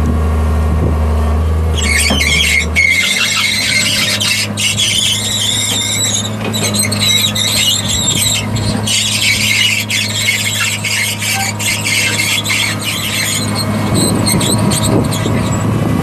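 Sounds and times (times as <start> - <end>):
diesel engine hum: 0.0 - 16.0
track chain squealing: 1.7 - 15.8.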